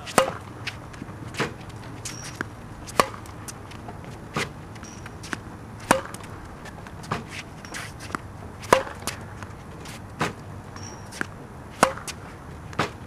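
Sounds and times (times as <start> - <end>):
tennis racket hitting balls: 0.0 - 13.0.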